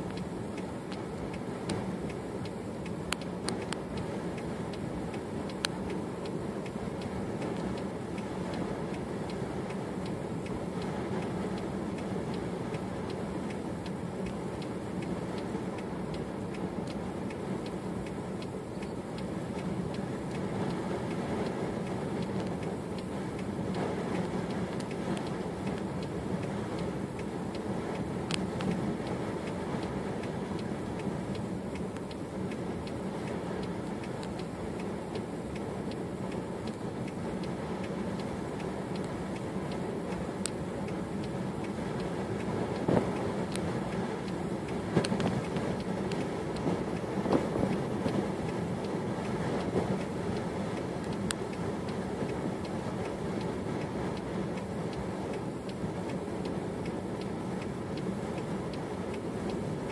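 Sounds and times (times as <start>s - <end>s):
blizzard wind: 0.0s - 59.9s
faint ticking: 0.0s - 59.9s.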